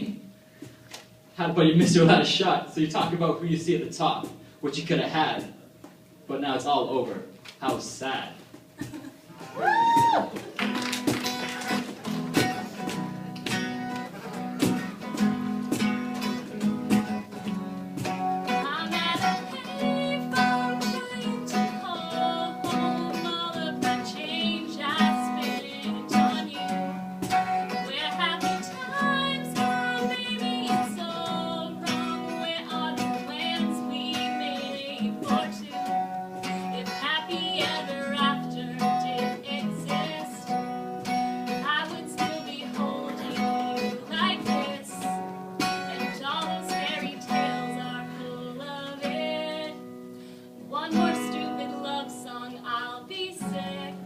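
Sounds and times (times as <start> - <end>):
strummed acoustic guitar: 10.4 - 54.0.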